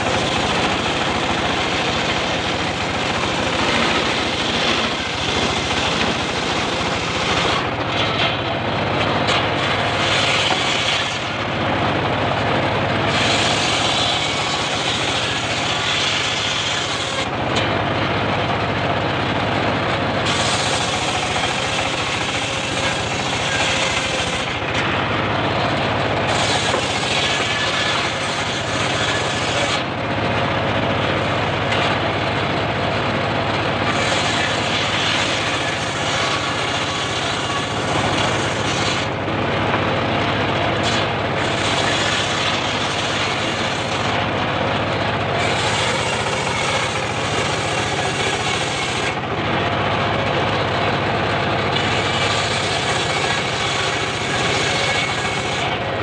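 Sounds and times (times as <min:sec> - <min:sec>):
circular saw cutting wood: 0:00.0 - 0:56.0
engine running steadily: 0:00.0 - 0:56.0.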